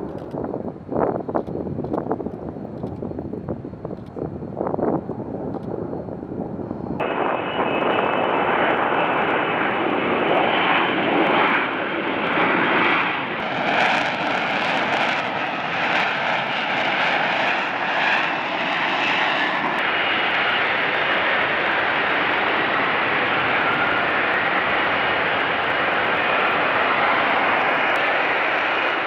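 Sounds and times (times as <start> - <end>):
jet engine running: 5.1 - 29.0.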